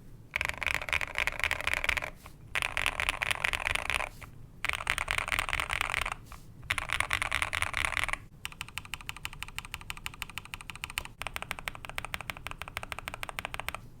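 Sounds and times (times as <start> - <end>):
mechanical keyboard typing: 0.3 - 13.8.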